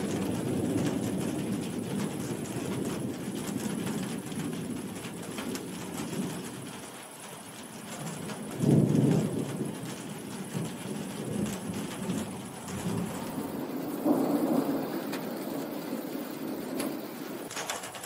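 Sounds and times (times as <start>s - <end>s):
heavy rain: 0.0s - 18.0s
thunder rumbling: 0.0s - 18.0s.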